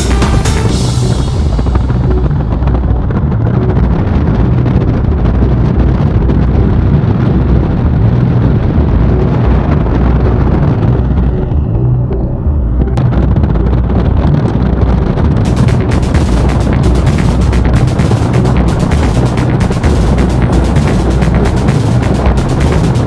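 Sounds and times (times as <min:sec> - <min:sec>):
motorcycle engine drone: 0:00.0 - 0:23.0
wind rushing over microphone: 0:00.0 - 0:23.0.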